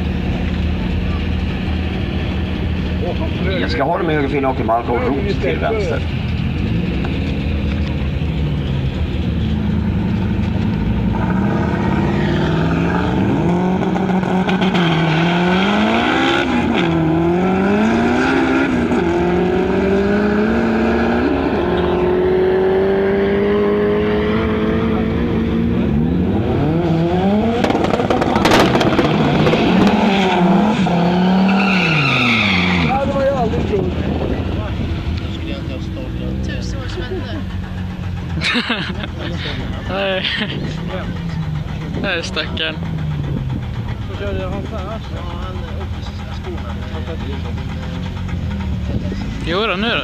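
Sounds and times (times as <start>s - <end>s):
car engine revving: 0.0s - 50.0s
drag racing car engines accelerating: 0.0s - 50.0s.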